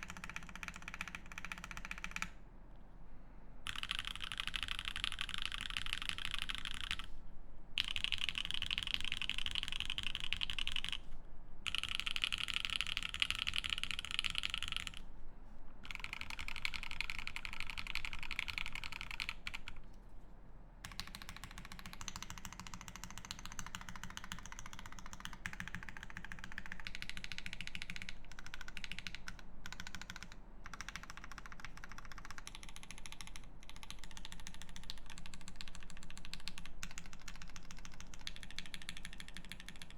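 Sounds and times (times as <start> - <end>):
fast typing on mechanical keyboard: 0.0 - 2.4, 3.7 - 7.1, 7.8 - 11.1, 11.7 - 15.0, 15.8 - 19.8, 20.8 - 39.9.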